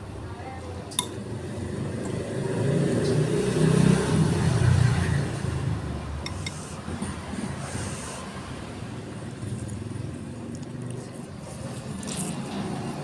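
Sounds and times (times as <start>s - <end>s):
motor vehicle passing by: 1.2s - 13.0s.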